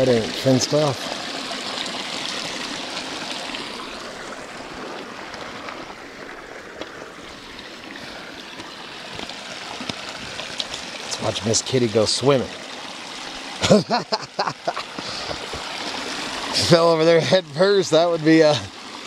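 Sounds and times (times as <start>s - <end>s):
creek rushing over cascade: 0.0s - 19.0s.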